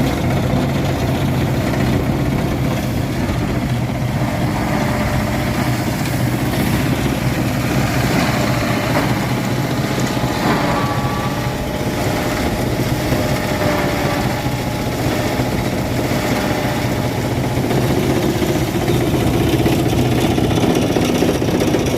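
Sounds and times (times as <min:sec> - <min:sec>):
motor humming steadily: 0:00.0 - 0:21.9.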